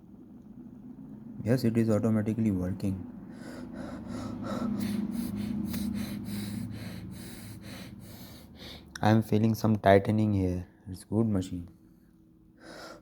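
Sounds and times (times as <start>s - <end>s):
small air pump humming: 0.0s - 9.3s, 11.8s - 13.0s.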